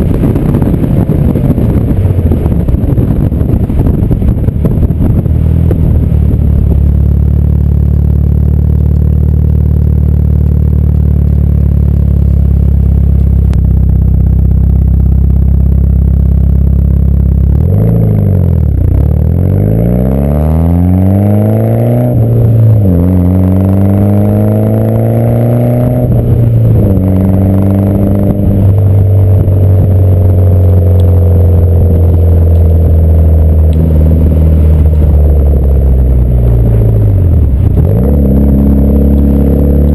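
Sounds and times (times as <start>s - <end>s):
car exhaust drone: 0.0s - 39.9s.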